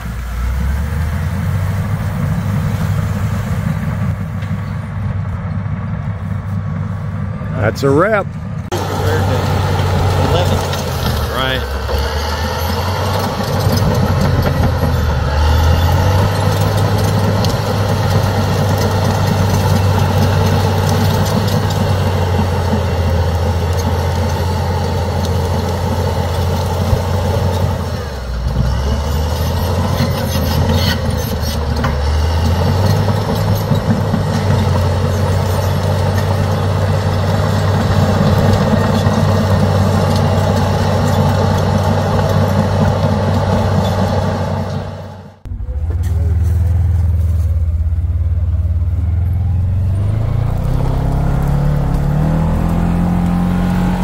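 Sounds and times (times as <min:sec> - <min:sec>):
bulldozer diesel engine running hard: 0:00.0 - 0:54.0.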